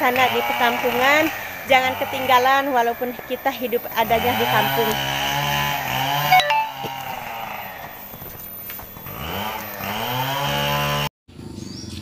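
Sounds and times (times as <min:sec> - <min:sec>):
small petrol engine running: 0:00.0 - 0:11.1.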